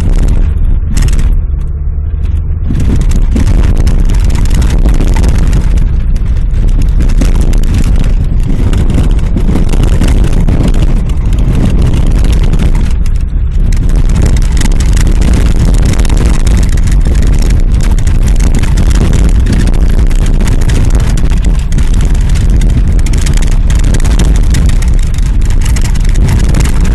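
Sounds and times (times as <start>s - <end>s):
car engine and tyres on snow: 0.0s - 26.9s.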